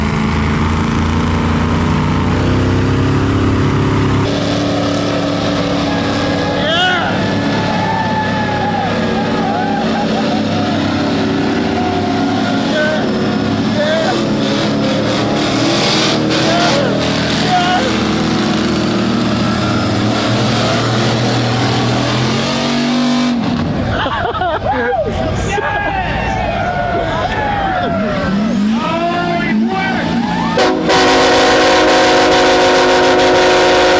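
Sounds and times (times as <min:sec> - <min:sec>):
truck engines running under load: 0:00.0 - 0:33.9.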